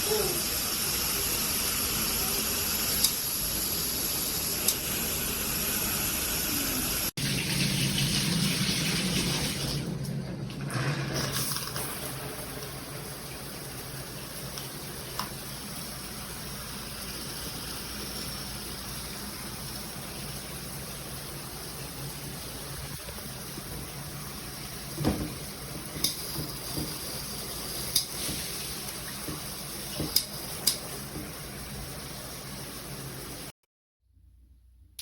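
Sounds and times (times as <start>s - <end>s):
shower water spraying: 0.0s - 10.0s, 10.6s - 33.5s.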